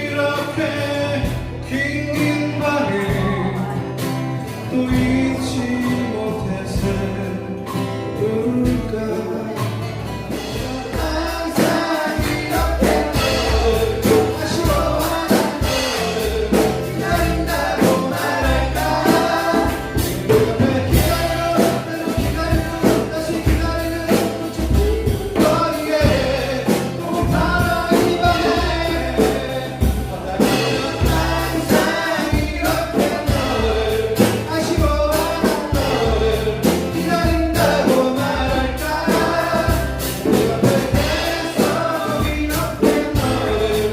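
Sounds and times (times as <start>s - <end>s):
group of voices singing: 0.0s - 43.9s
strummed acoustic guitars: 0.0s - 43.9s.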